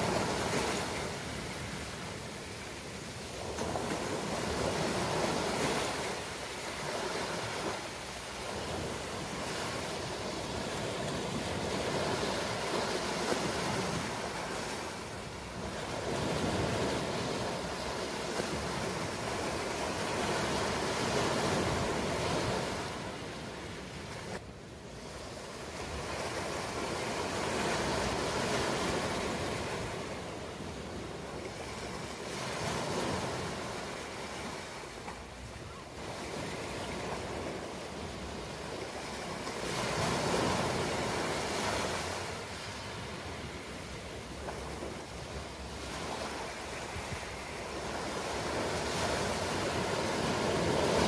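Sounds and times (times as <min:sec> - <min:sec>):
ocean waves surging: 0:00.0 - 0:51.0.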